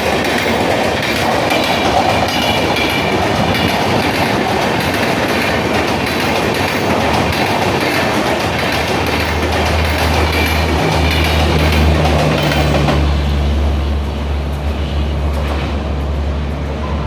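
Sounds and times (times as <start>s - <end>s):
train low rumble: 0.0s - 17.0s
wheel clatter on rails: 0.0s - 17.0s.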